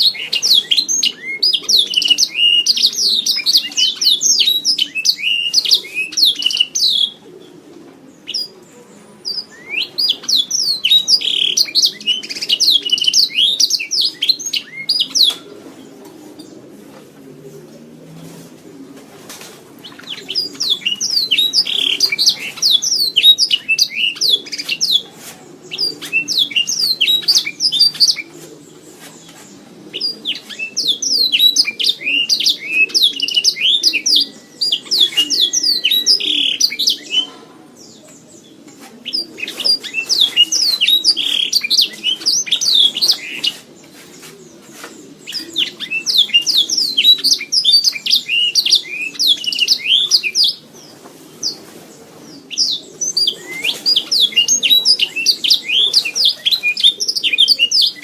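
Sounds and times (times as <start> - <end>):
canary singing trills: 0.0 - 8.6, 9.2 - 15.6, 19.8 - 51.6, 52.2 - 58.0.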